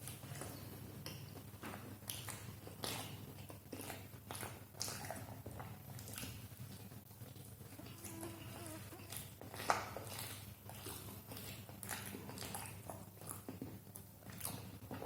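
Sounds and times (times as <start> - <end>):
faint steady hum: 0.0 - 15.0
person chewing food: 0.0 - 15.0.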